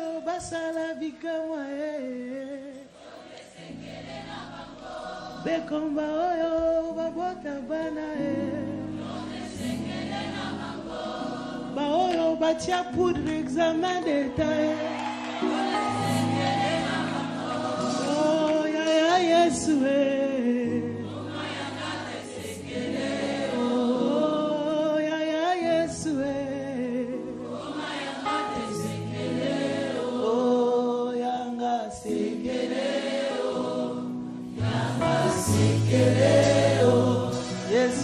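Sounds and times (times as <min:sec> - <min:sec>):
choir singing gospel music: 0:01.5 - 0:38.0.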